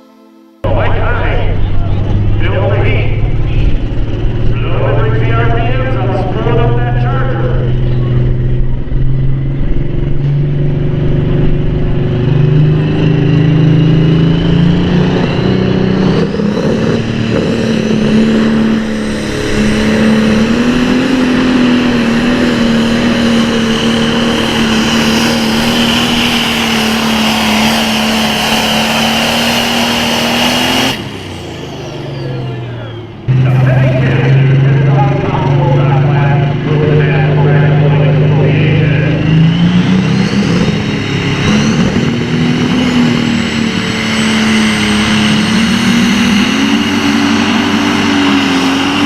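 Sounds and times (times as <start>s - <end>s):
tractor diesel engine at full throttle: 0.6s - 49.0s.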